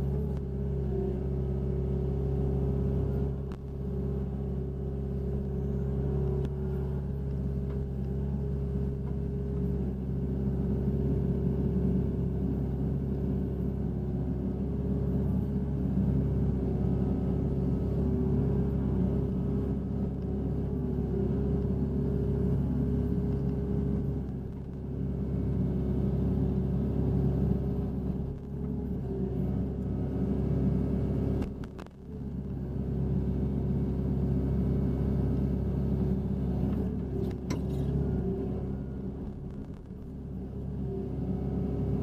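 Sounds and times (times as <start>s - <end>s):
excavator diesel engine and hydraulics: 0.0s - 42.0s.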